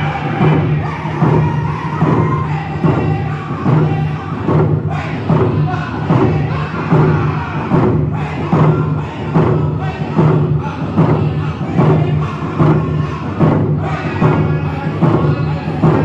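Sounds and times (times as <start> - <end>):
group chanting low: 0.0 - 16.0
hand drums beating: 0.0 - 16.0.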